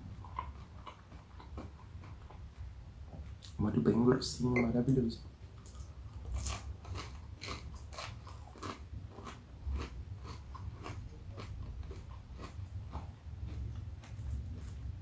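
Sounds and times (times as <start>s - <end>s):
crunchy chewing: 0.0s - 2.8s, 5.6s - 15.0s.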